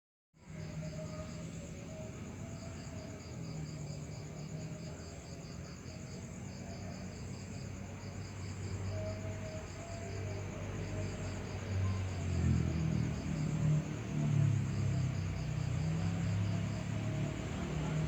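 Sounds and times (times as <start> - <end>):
crickets trilling: 0.4 - 18.0.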